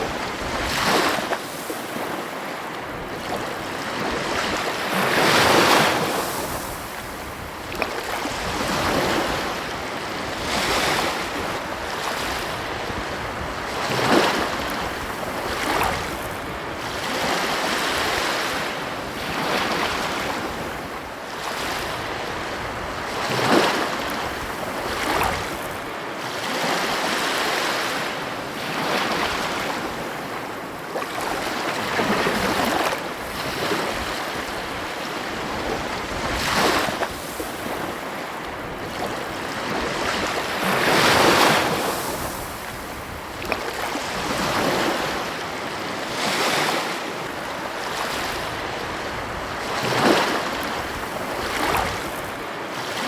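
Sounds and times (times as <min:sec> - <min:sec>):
ocean surf breaking on beach: 0:00.0 - 0:53.0.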